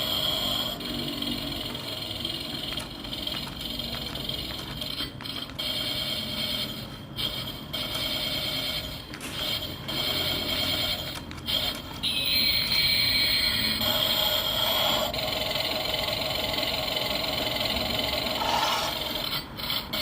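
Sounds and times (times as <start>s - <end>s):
toy tank engine sound from speaker: 0.0s - 20.0s.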